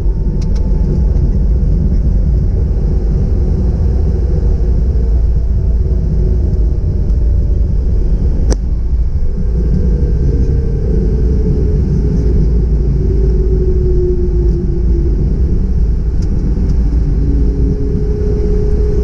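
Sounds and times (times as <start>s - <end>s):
jet rumbling on runway: 0.0s - 19.0s.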